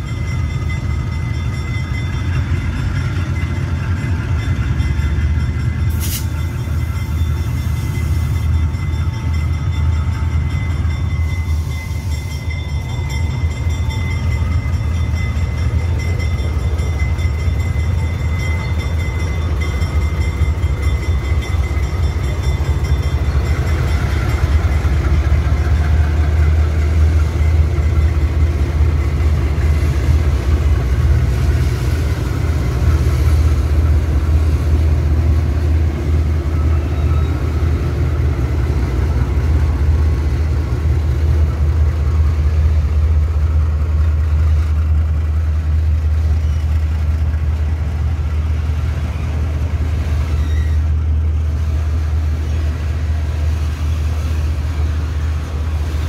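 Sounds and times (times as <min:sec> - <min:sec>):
locomotive engines droning: 0:00.0 - 0:56.0.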